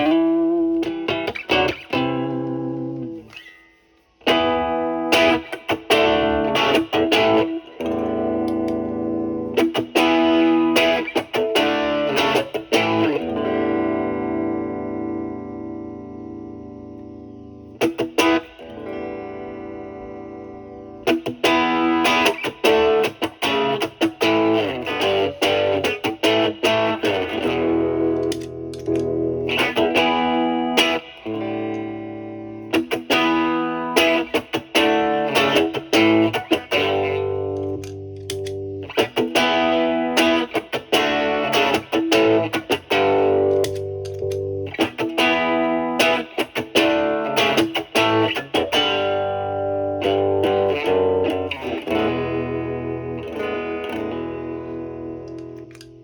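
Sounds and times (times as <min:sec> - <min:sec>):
overdriven electric guitar: 0:00.0 - 0:56.0.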